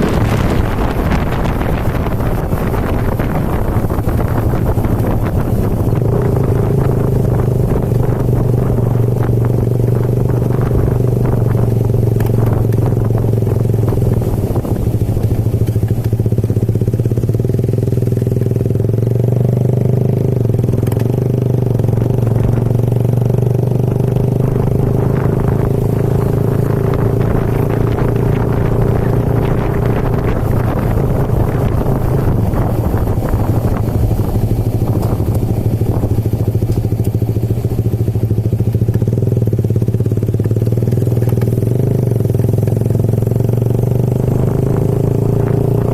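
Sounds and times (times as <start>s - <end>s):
motorcycle engine running: 0.0s - 45.9s
road and wind noise: 0.0s - 45.9s.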